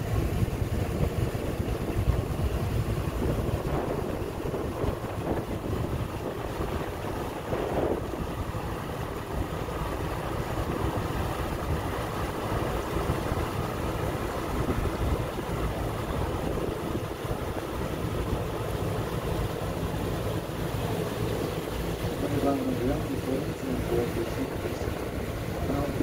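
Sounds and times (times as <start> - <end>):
boat engine running: 0.0 - 26.0
wake churning water: 0.0 - 26.0
wind buffeting microphone: 0.0 - 26.0.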